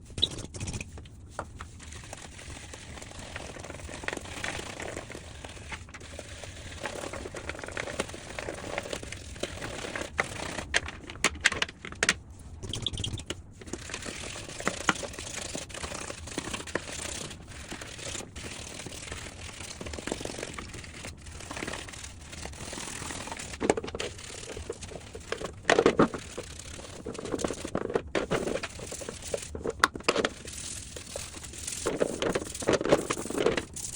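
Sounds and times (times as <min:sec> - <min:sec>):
scrubbing plastic filter: 0:00.0 - 0:33.9.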